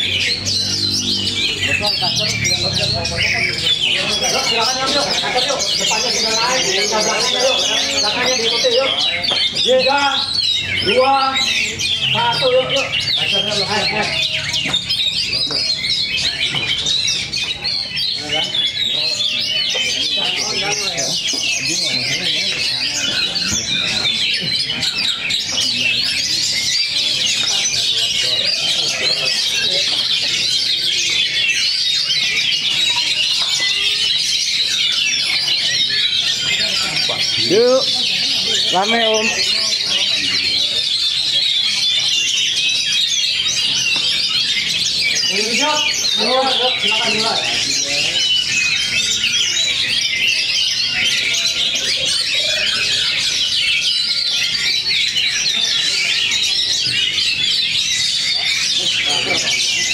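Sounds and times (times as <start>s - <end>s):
birds singing in chorus: 0.0s - 59.9s.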